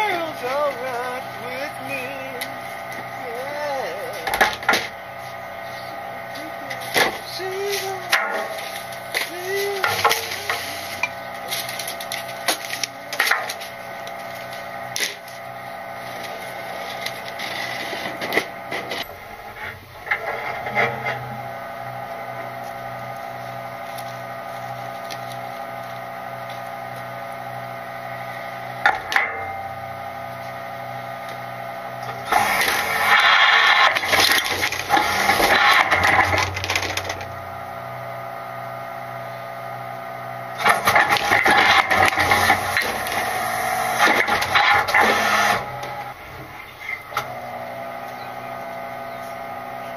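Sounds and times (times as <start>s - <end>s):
garbage truck hum and whine: 0.0s - 49.9s.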